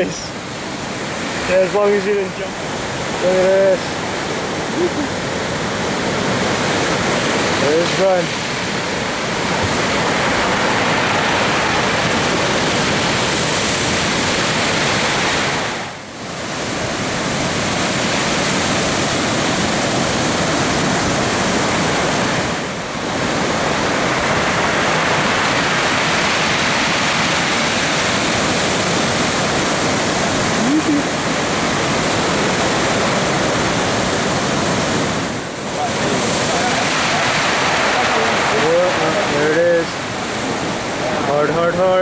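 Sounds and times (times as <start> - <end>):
surf breaking ashore: 0.0 - 42.0.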